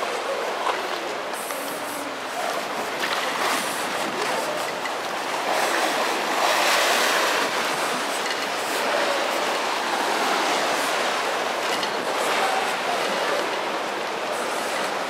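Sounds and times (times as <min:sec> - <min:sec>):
lake waves washing against pier: 0:00.0 - 0:15.0.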